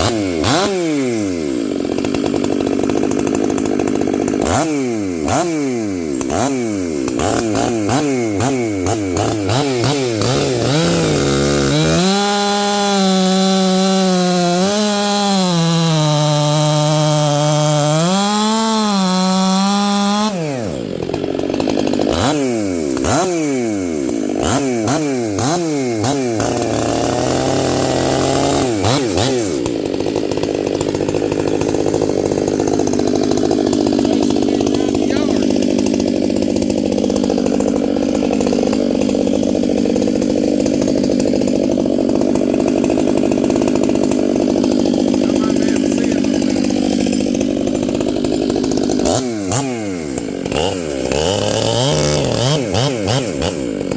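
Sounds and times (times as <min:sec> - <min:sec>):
chainsaw revving and cutting wood: 0:00.0 - 0:53.9.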